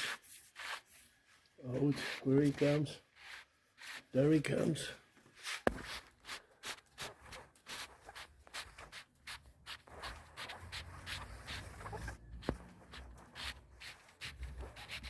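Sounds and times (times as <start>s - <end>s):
hands rubbing and scraping shade: 0.0s - 4.6s, 5.3s - 15.0s.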